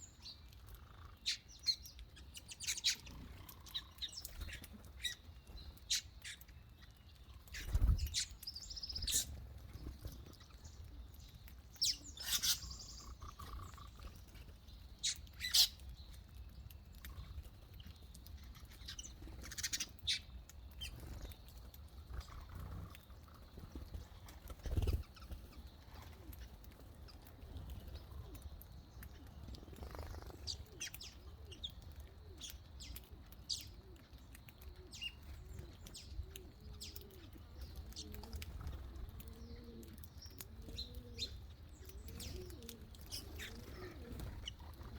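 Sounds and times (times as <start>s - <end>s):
birds chirping and squawking: 0.0s - 44.9s.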